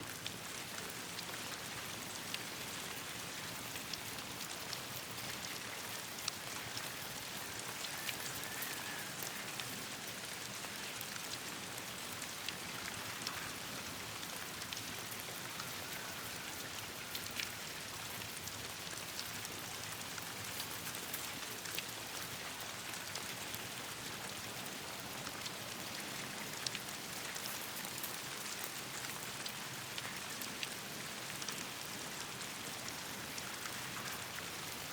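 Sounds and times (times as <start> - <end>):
rain on leaves: 0.0 - 34.9.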